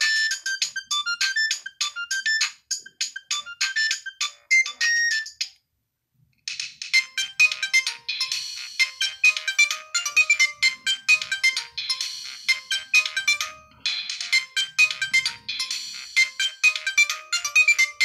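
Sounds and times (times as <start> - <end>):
phone ringtone melody: 0.0 - 5.5, 6.9 - 18.0
polyphonic phone ringtone: 0.0 - 5.5, 6.9 - 18.0.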